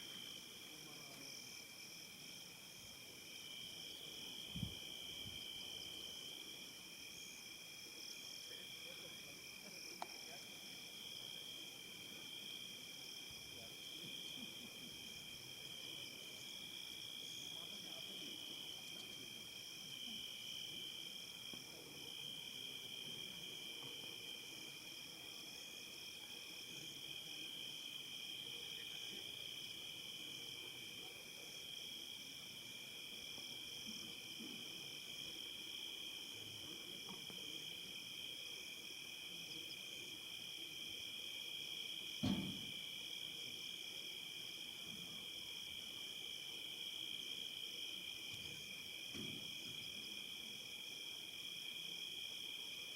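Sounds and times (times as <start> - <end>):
crickets chirping: 0.0 - 52.9.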